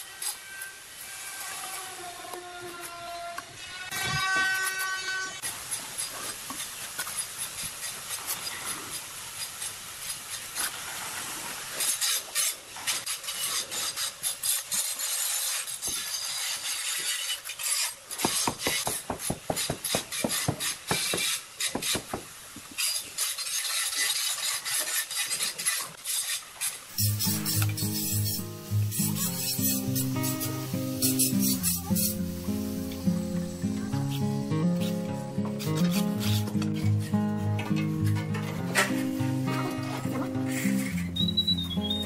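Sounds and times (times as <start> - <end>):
trowel scraping wet mortar: 3.9 - 10.8, 11.6 - 42.0.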